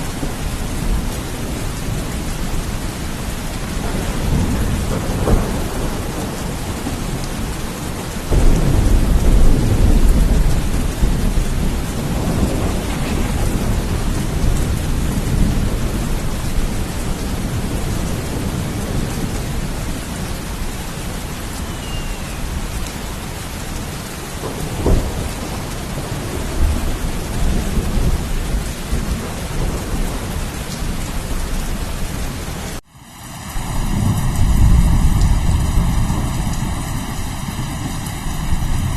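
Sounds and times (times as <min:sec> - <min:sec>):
rolling thunder: 0:00.0 - 0:23.8, 0:24.4 - 0:32.8, 0:33.5 - 0:38.9
heavy rain: 0:00.0 - 0:38.9.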